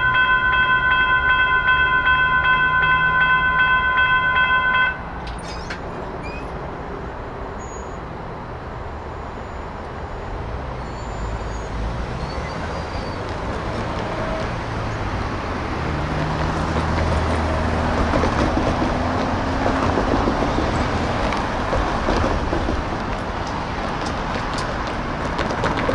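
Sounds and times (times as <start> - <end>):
traffic noise: 0.0 - 25.9.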